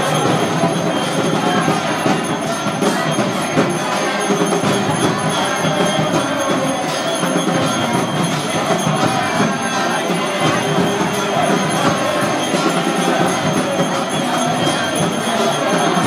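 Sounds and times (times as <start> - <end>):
jingling hand cymbals: 0.0 - 16.0
ringing bells: 0.0 - 16.0.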